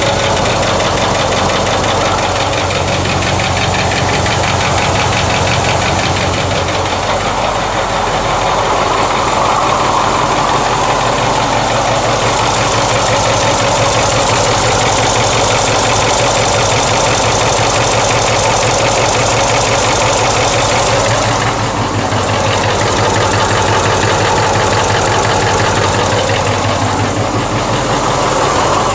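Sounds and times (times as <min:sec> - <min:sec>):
diesel engine idling: 0:00.0 - 0:28.9
engine knock: 0:00.0 - 0:28.9.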